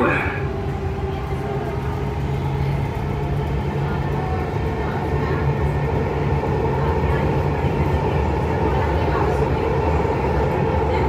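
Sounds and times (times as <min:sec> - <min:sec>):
train running through tunnel: 0:00.0 - 0:11.0.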